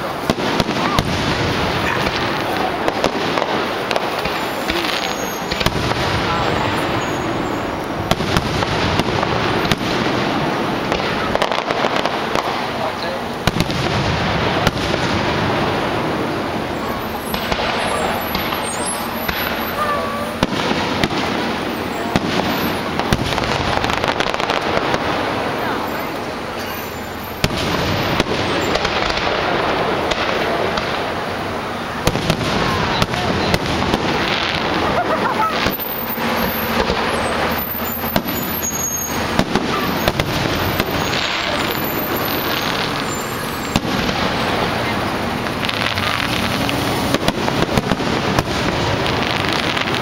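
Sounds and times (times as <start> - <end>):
fireworks bangs: 0.0 - 50.0
rumble of explosions: 0.0 - 50.0.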